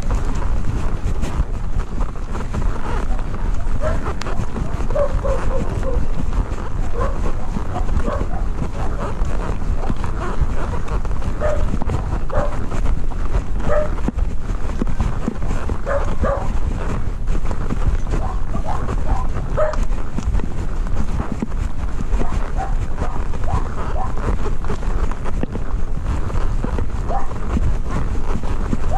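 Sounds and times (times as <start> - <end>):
heavy low rumble: 0.0 - 28.0.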